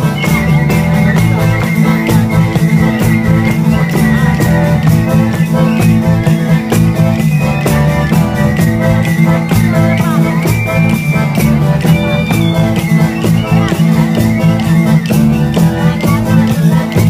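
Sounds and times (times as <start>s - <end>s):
guitar: 0.0s - 17.0s
hand drum beat: 0.0s - 17.0s
sustained pitched notes: 0.0s - 17.0s.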